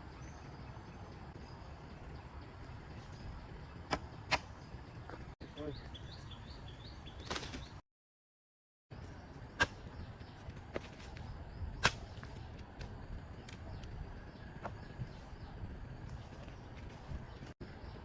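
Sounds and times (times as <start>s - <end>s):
steady outdoor background: 0.0s - 7.8s, 8.9s - 18.0s.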